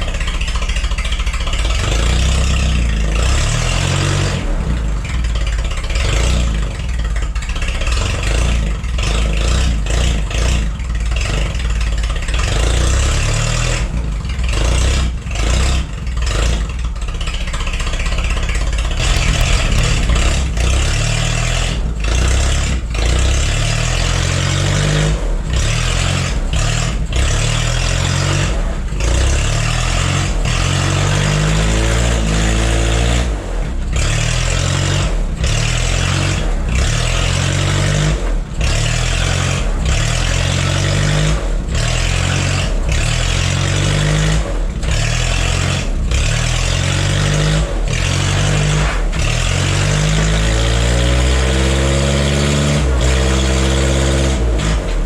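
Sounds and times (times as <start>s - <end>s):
forklift engine revving: 0.0s - 55.0s.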